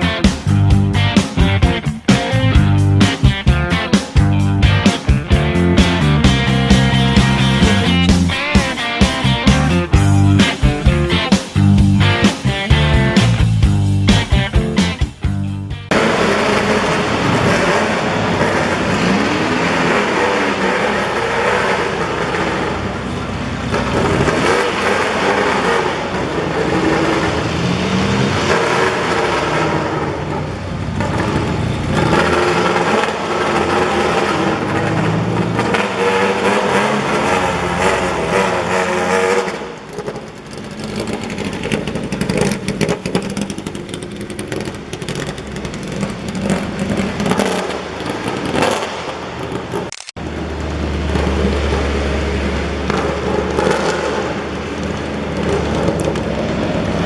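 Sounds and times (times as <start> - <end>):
race cars engines revving: 0.0 - 57.0.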